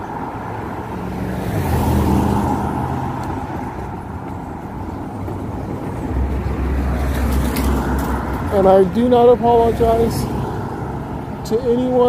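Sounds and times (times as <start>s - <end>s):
car passing by: 0.0s - 11.4s
traffic noise: 0.0s - 12.0s.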